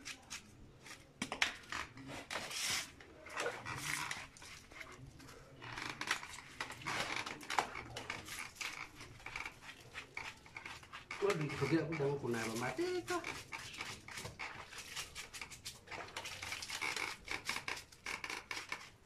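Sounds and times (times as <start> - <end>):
dog being scrubbed: 2.3 - 5.3, 6.2 - 19.0.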